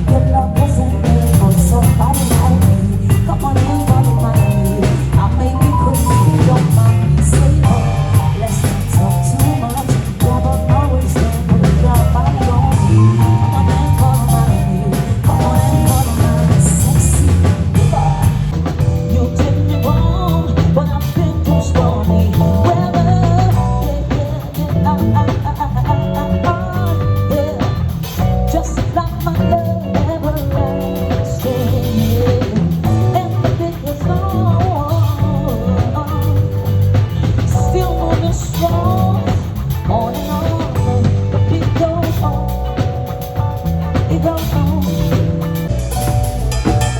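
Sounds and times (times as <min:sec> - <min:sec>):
bass: 0:00.0 - 0:46.9
drum kit: 0:00.0 - 0:46.9
guitar: 0:00.0 - 0:46.9
melodic lead line: 0:00.0 - 0:46.9.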